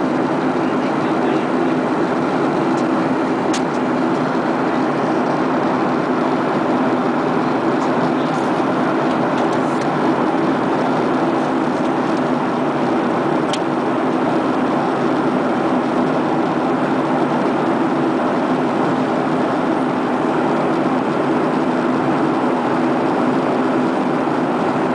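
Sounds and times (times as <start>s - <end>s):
airliner cabin engine noise: 0.0s - 24.9s.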